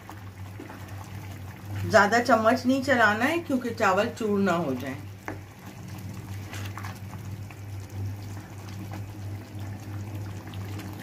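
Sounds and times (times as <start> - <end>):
steady low hum: 0.0 - 11.0
water bubbling in pan: 0.0 - 11.0.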